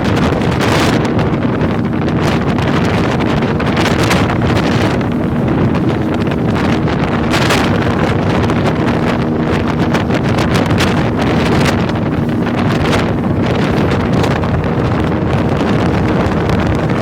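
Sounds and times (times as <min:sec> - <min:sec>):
boat motor humming: 0:00.0 - 0:17.0
water noise: 0:00.0 - 0:17.0
wind buffeting microphone: 0:00.0 - 0:17.0.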